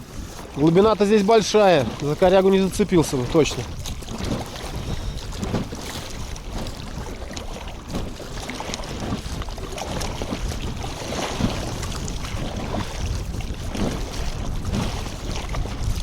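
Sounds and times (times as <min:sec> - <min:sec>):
waves slapping against boat: 0:00.0 - 0:16.0
wind buffeting microphone: 0:00.0 - 0:16.0.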